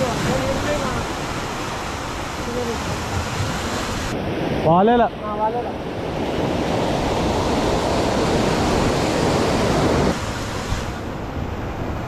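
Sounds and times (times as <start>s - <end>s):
water noise: 0.0s - 12.0s
wind rushing over microphone: 0.0s - 12.0s.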